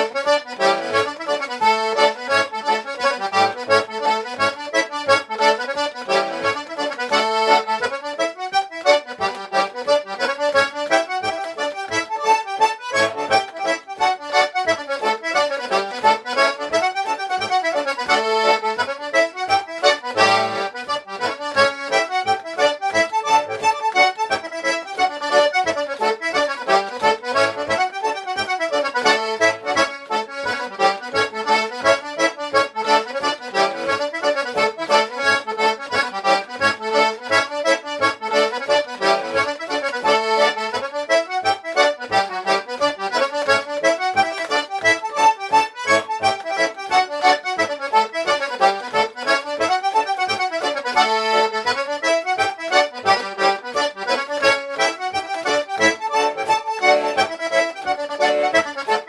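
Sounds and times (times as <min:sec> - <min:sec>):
button accordion folk tune: 0:00.0 - 0:59.0.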